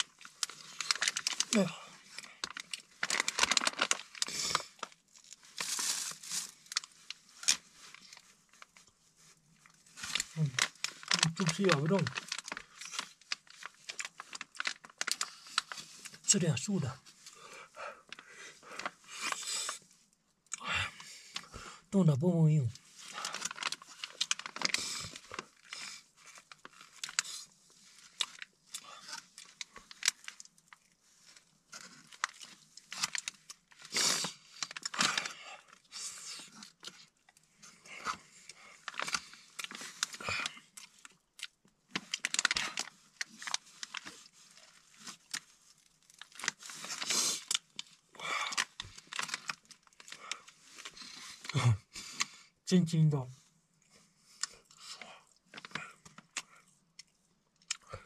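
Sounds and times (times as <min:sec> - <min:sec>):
crunchy chewing of frozen food: 0:00.0 - 0:16.3, 0:23.0 - 0:52.5, 0:53.8 - 0:58.0
plastic bag crinkling: 0:00.0 - 0:19.8, 0:22.8 - 0:52.3, 0:54.3 - 0:58.0.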